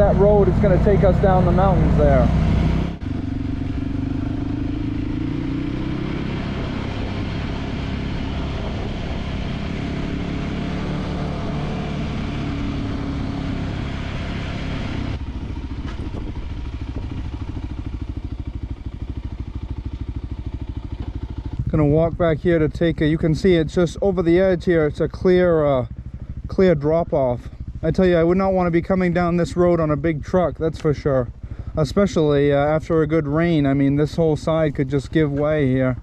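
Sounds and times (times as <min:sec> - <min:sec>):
motorcycle engine running: 0:00.0 - 0:36.0
wind: 0:00.0 - 0:36.0.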